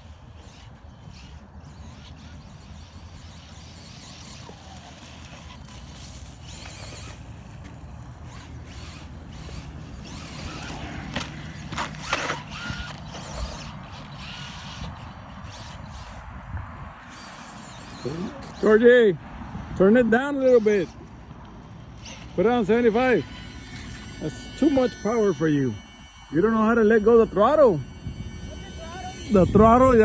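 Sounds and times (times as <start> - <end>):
electric motor hum: 0.0 - 30.0.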